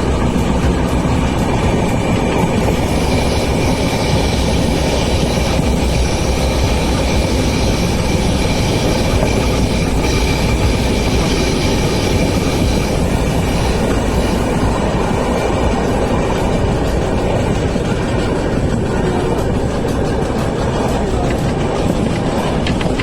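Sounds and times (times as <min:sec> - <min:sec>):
thin high whine: 0:00.0 - 0:23.0
train wheels rumbling on track: 0:00.0 - 0:23.0.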